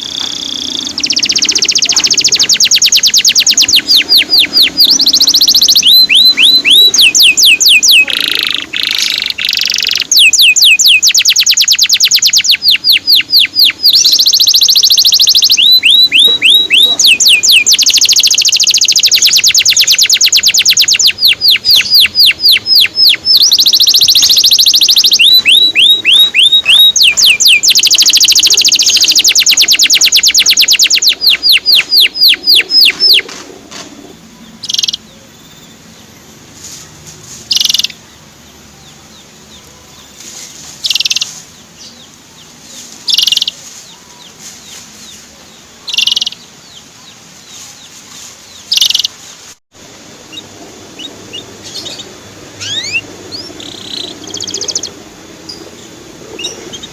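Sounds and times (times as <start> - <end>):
canary chirps: 0.0 - 33.3, 34.1 - 49.6, 50.3 - 56.9
canary singing trill: 0.0 - 56.9.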